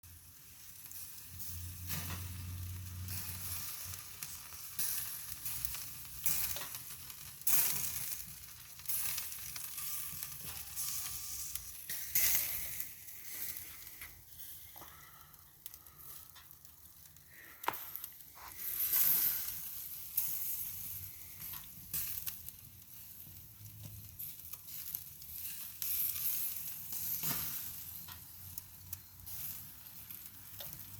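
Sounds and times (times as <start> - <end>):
chicken sizzling: 0.0 - 30.9.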